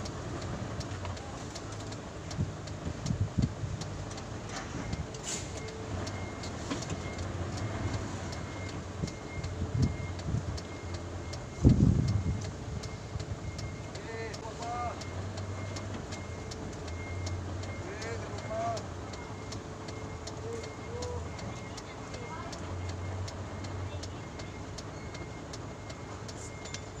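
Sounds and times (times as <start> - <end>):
faint regular ticking: 0.0 - 27.0
truck engine rumbling: 0.0 - 27.0.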